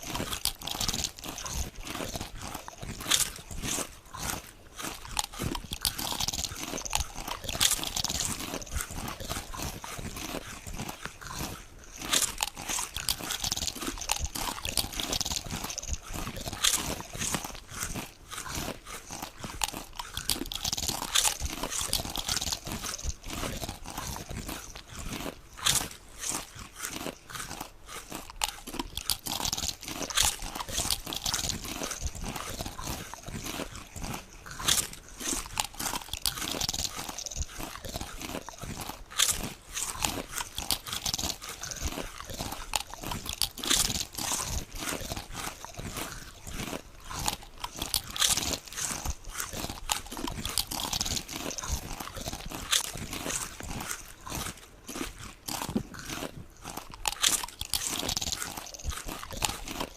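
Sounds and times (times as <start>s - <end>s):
crackly chewing: 0.0s - 59.9s
potato chips crunching: 0.0s - 59.9s.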